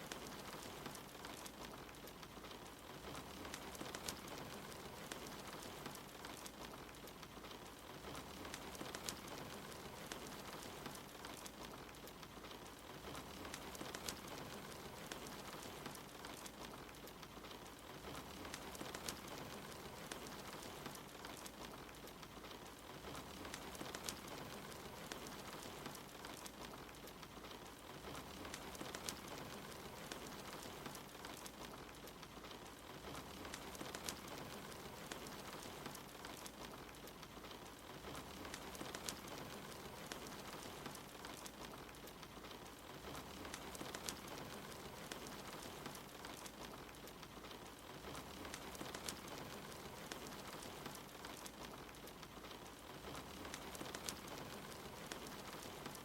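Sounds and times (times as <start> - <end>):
steady rain: 0.0 - 56.0
wood fire crackling and popping: 0.0 - 56.0.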